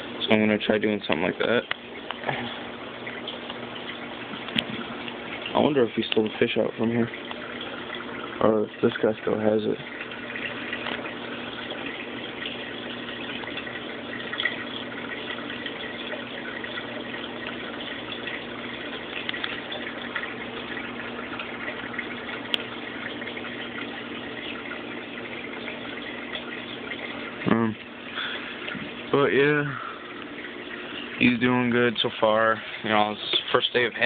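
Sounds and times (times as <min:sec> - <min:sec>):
low pump hum: 0:00.0 - 0:34.0
water rushing and trickling: 0:00.0 - 0:34.0.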